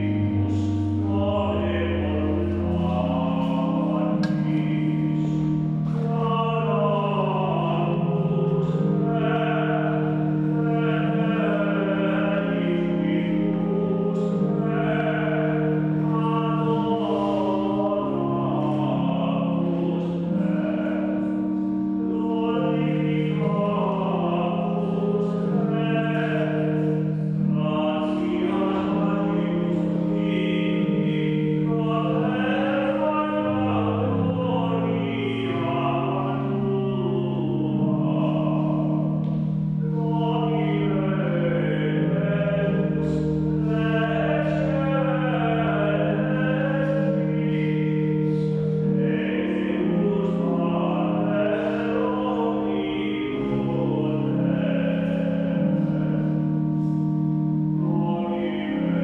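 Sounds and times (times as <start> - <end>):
choir singing sacred music: 0.0 - 59.0.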